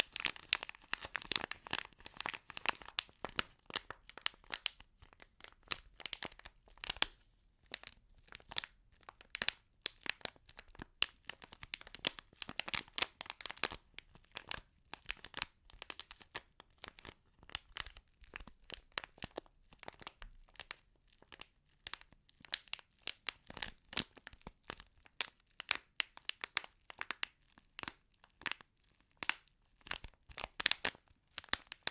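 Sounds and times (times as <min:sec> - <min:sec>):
sticky material crinkling: 0:00.0 - 0:31.9.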